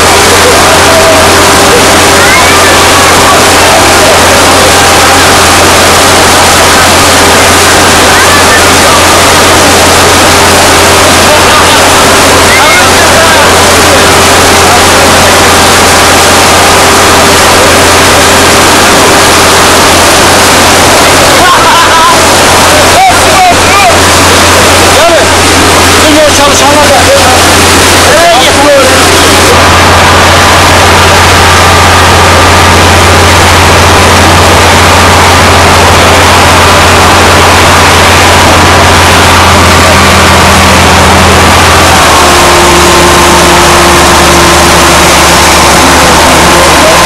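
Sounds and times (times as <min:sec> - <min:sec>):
engine-like roar: 0:00.0 - 0:47.0
hot water and steam gushing: 0:00.0 - 0:47.0
low hum: 0:00.0 - 0:47.0.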